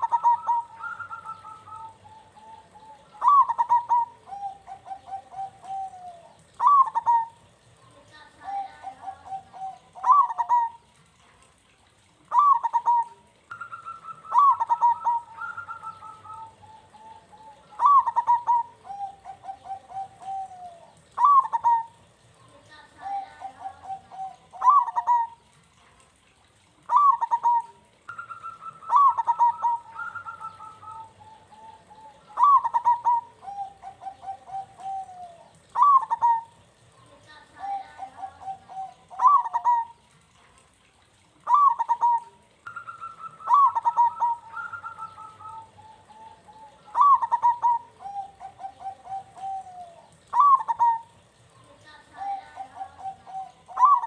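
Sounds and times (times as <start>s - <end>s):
doves cooing: 0.0s - 25.8s, 26.5s - 54.0s.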